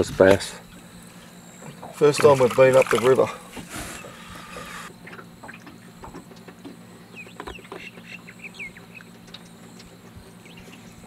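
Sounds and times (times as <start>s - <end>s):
low steady hum: 0.0s - 11.0s
small birds chirping: 0.6s - 11.0s.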